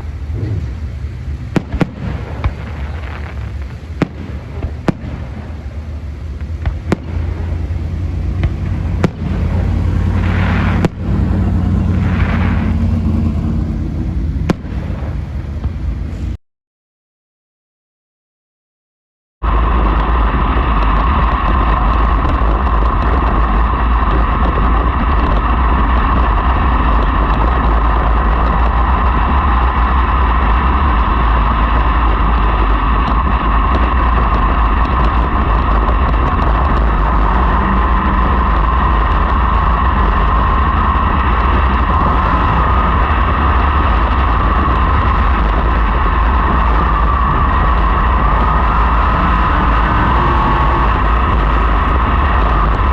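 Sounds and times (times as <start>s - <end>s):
race car engines roaring: 0.0s - 16.4s, 19.4s - 52.9s.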